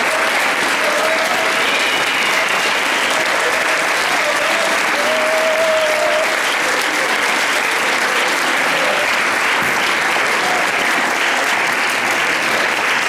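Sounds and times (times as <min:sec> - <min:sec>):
audience applauding: 0:00.0 - 0:13.0
crowd cry: 0:00.0 - 0:13.0.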